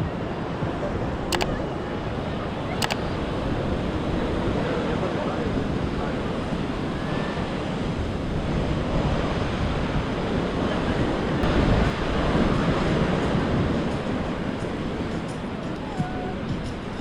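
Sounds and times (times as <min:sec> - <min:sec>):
surf washing onto beach: 0:00.0 - 0:17.0
wind rumbling on microphone: 0:00.0 - 0:17.0.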